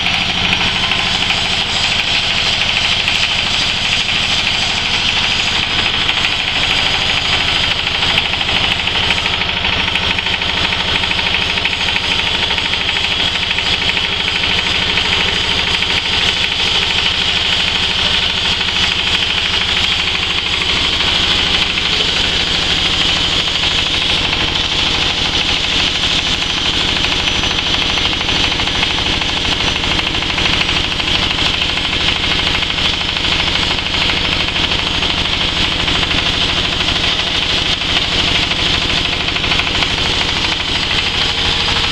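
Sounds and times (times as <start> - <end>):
hammer mill clattering: 0.0 - 41.9.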